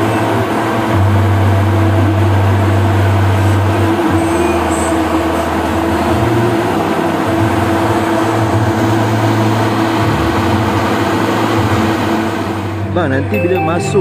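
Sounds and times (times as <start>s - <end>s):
electric blower fan running: 0.0s - 14.0s.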